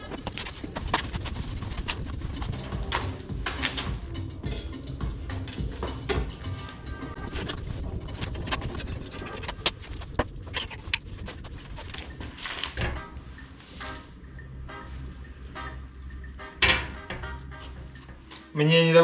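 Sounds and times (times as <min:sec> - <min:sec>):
low steady hum: 0:00.0 - 0:18.6.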